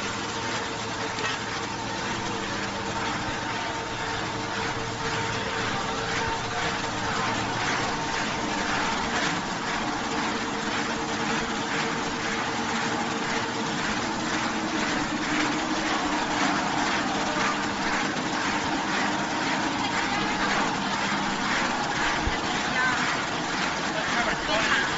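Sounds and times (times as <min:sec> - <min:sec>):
machinery hum: 0:00.0 - 0:24.9
vibrating conveyor rush: 0:00.0 - 0:24.9.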